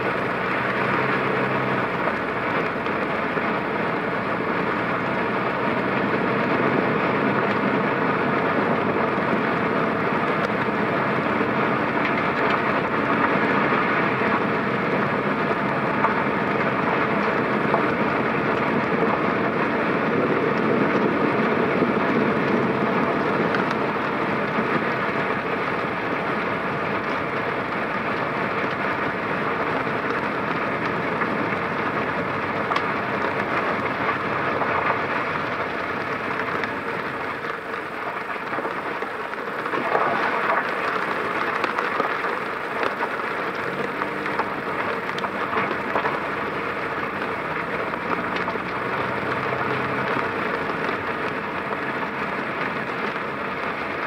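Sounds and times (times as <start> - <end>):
rain: 0.0 - 54.0
tyres hissing on wet pavement: 0.0 - 54.0.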